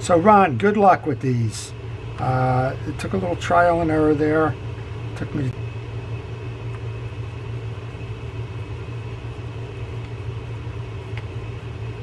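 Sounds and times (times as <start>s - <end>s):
faint high whine: 0.0s - 12.0s
low mechanical hum: 0.0s - 12.0s.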